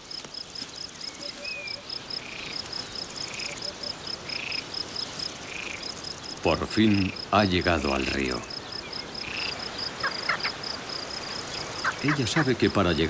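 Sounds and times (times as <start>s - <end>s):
cricket chirping: 0.0s - 13.0s
frogs calling: 0.1s - 13.0s.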